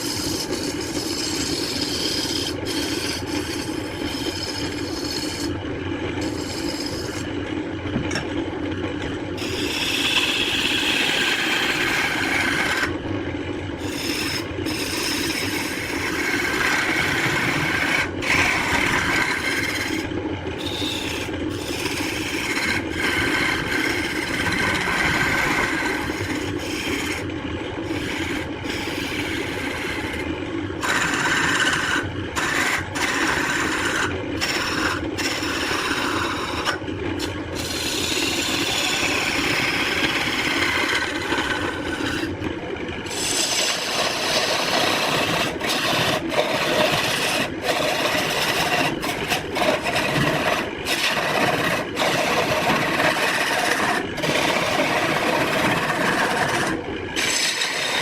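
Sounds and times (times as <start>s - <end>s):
wood being cut or abraded: 0.0s - 5.6s, 6.2s - 7.4s, 9.4s - 13.0s, 13.8s - 42.4s, 43.0s - 58.0s.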